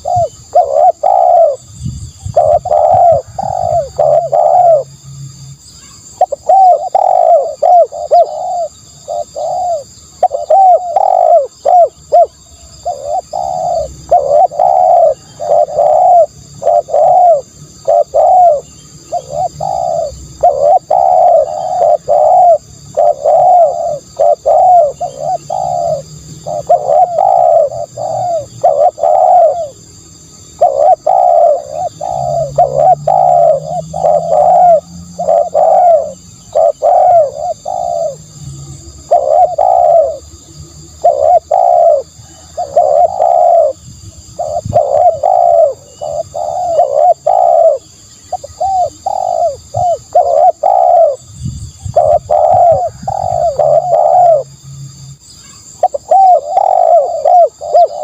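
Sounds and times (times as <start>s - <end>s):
dove cooing: 0.0s - 5.0s, 5.8s - 54.6s, 55.4s - 58.0s.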